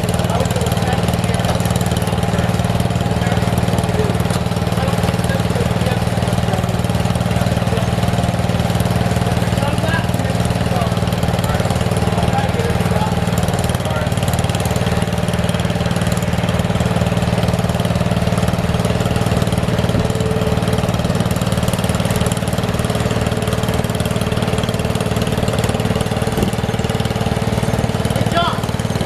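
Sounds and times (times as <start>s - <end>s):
small tractor engine running: 0.0s - 29.0s.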